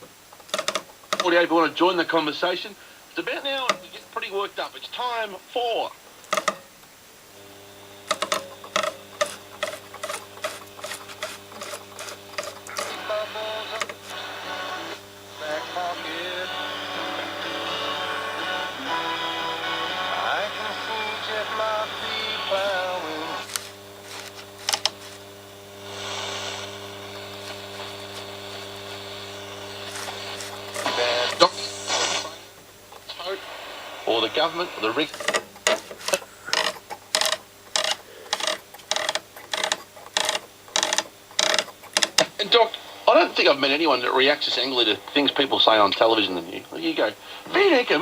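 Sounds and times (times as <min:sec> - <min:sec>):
radio loudspeaker hum: 0:00.0 - 0:48.0.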